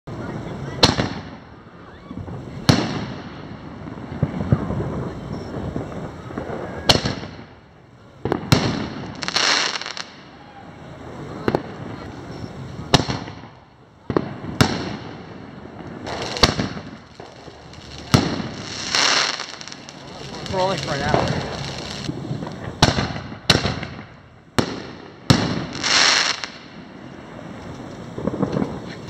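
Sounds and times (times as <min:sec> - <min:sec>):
firework shells exploding: 0:00.1 - 0:29.0
hissing firework crackle: 0:00.1 - 0:29.0.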